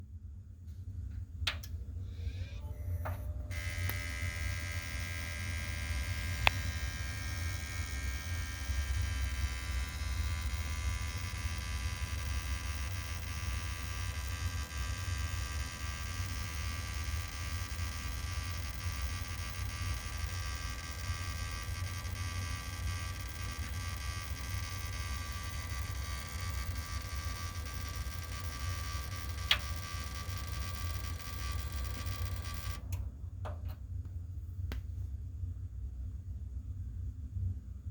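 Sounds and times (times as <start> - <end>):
computer low buzz: 1.5 - 33.0
faint high whining tones: 1.6 - 33.8.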